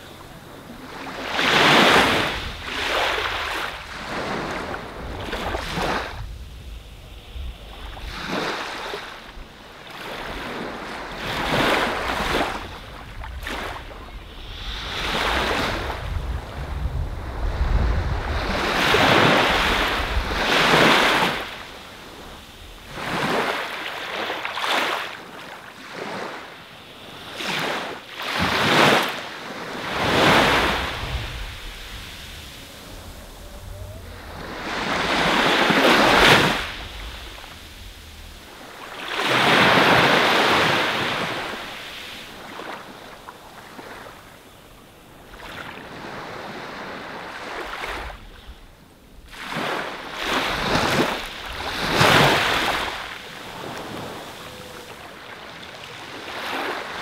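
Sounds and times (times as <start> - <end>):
waves washing onto beach: 0.0 - 57.0.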